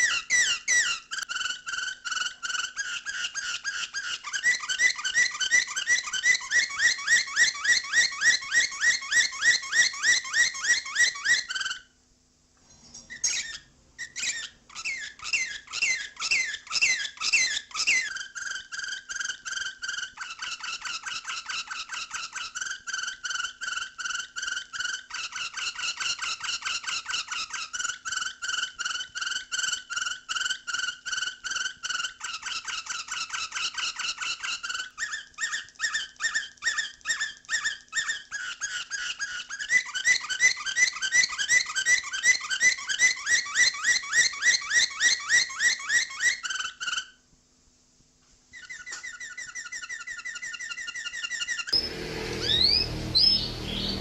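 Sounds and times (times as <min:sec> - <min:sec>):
canary singing: 0:00.0 - 0:11.9, 0:13.1 - 0:47.2, 0:48.5 - 0:54.0.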